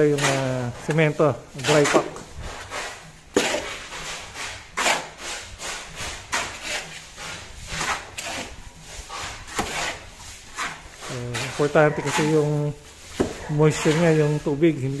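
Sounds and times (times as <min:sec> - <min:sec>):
shovels scooping sand and cement: 0:00.0 - 0:15.0
shovels scraping concrete: 0:00.0 - 0:15.0.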